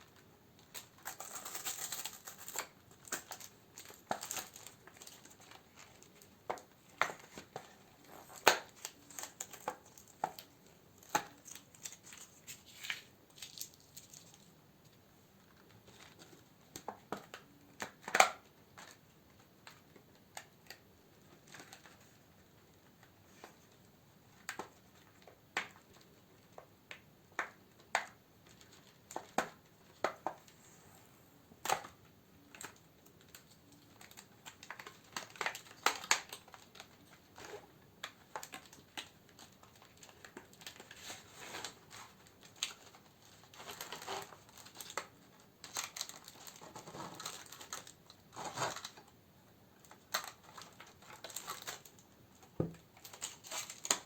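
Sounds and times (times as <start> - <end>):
plastic and paper crinkling: 0.0 - 31.0, 31.6 - 49.1, 49.8 - 54.0.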